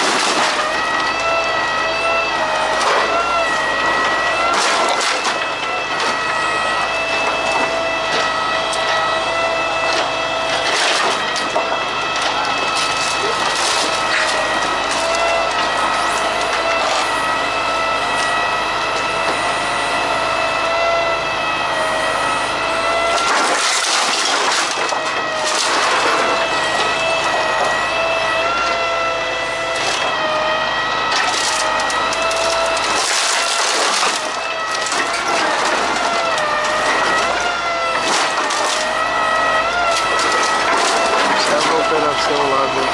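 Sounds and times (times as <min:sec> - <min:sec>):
wooden pallets cracking: 0:00.0 - 0:19.4, 0:22.6 - 0:42.9
hydraulic crane whine: 0:00.0 - 0:42.9.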